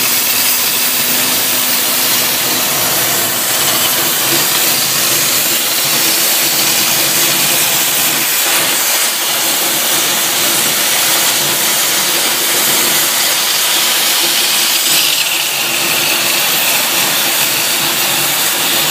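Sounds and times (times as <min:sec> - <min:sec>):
cutting torch hissing: 0:00.0 - 0:18.9.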